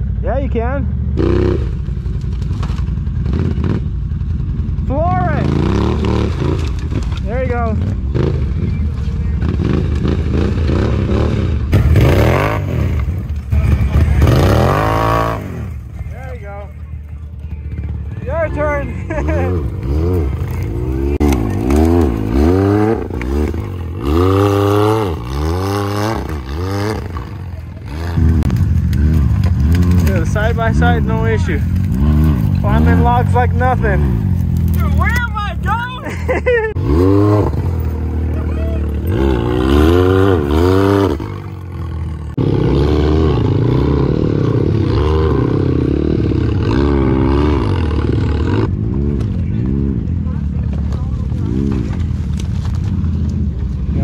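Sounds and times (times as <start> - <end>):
engine revving under load: 0.0 - 16.7, 17.6 - 54.0.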